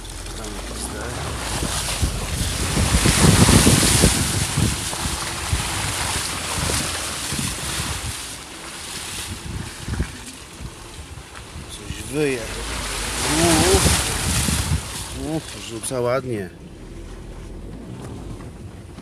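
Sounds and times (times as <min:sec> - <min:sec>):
car bumping over ruts: 0:00.0 - 0:19.0
tyres splashing through puddle: 0:00.0 - 0:19.0.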